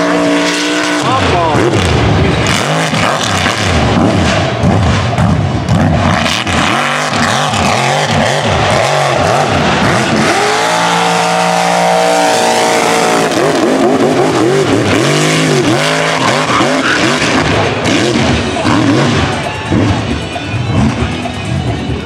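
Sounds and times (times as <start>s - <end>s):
truck engines revving hard: 0.0s - 22.0s.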